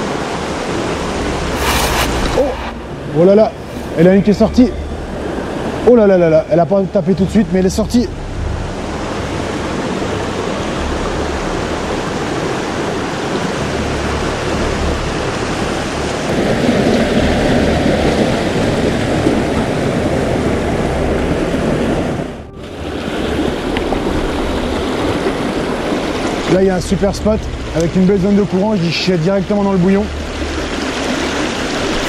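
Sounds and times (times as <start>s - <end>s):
water rushing over rocks: 0.0s - 6.3s, 8.0s - 32.0s.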